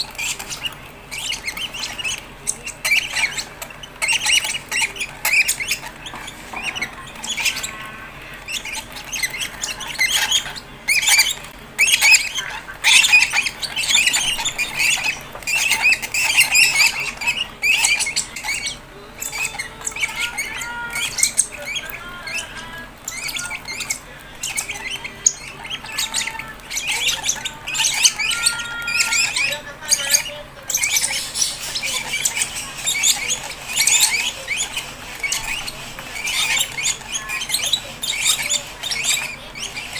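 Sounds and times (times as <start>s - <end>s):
bird chicks squawking: 0.0s - 39.9s.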